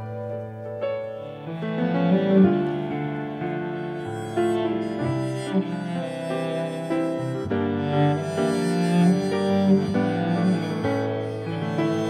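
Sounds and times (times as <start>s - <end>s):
slow piano and bowed strings: 0.0s - 12.0s.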